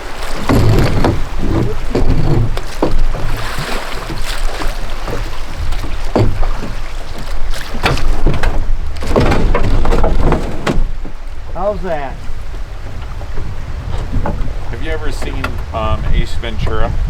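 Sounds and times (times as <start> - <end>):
water splashing: 0.0 - 17.0
wind rumble on microphone: 0.0 - 17.0
knocks against boat hull: 0.2 - 11.7, 12.9 - 15.8.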